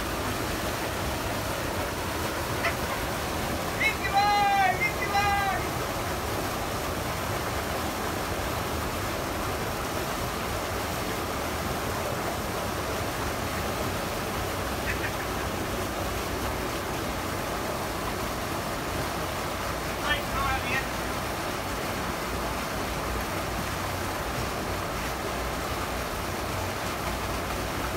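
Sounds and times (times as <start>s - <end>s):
water pouring over a weir: 0.0s - 27.9s.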